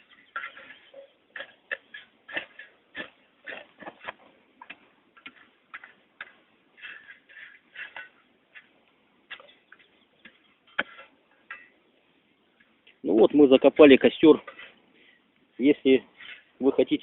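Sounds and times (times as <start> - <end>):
earth crunching scrapes: 0.0 - 10.0, 13.0 - 17.0.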